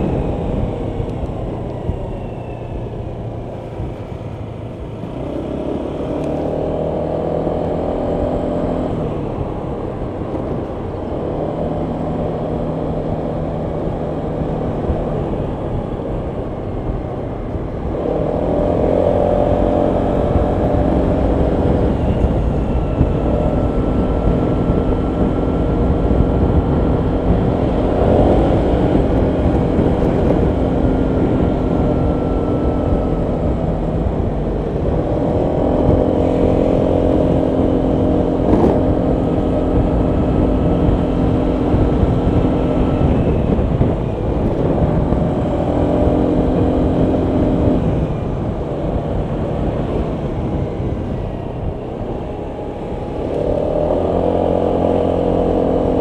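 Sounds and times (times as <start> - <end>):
scooter engine revving: 0.0 - 56.0
wind and road noise: 0.0 - 56.0.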